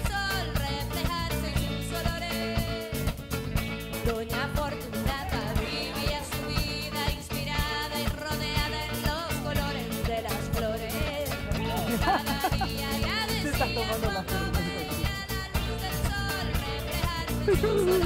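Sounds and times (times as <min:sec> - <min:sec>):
song with singing drums and guitar: 0:00.0 - 0:18.0.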